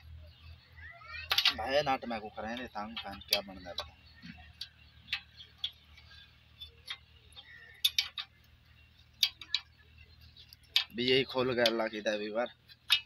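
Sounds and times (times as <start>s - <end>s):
metal spanner clinking on nuts: 1.2s - 11.9s, 12.6s - 13.0s.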